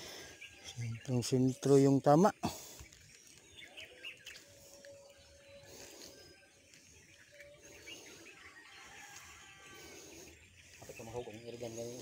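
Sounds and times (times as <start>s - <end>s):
distant small birds chirping: 0.0s - 12.0s.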